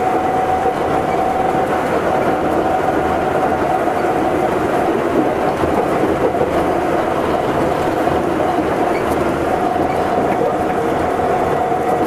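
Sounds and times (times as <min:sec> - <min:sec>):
train tyres rumbling on guideway: 0:00.0 - 0:12.0.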